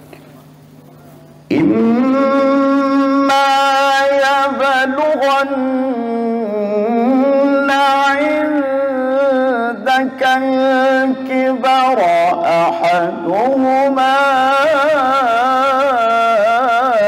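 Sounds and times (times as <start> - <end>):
man reciting melodically: 1.5 - 17.0.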